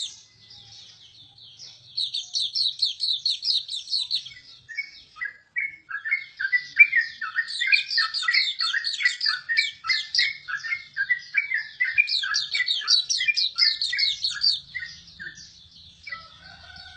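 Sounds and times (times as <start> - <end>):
bird warbling song: 0.0 - 16.9.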